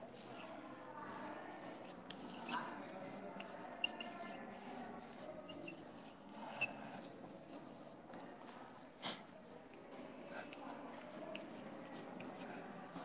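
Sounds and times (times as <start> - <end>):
chalk scratching on blackboard: 0.0 - 8.0, 9.0 - 13.0.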